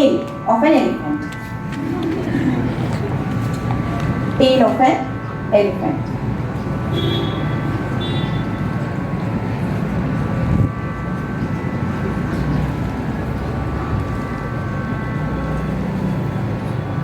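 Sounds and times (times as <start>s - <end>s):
low rumbling drone: 0.0s - 17.0s.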